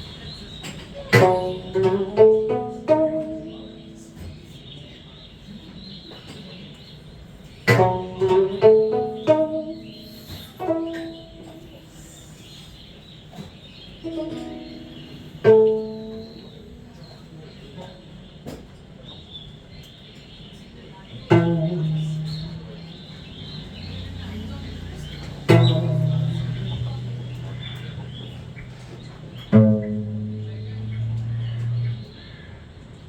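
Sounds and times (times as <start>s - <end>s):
plucked string instrument: 0.0s - 4.7s, 7.2s - 18.9s, 21.0s - 33.0s.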